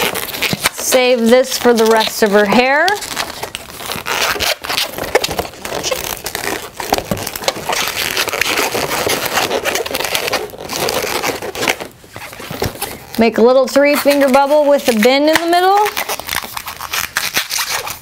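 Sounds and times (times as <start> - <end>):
balloons squeaking and rubbing: 0.0 - 18.0.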